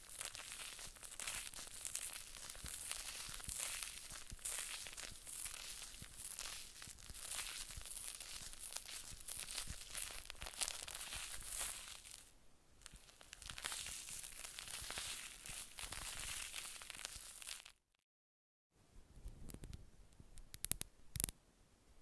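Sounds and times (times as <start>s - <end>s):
dense crinkling and crackling: 0.0s - 17.8s.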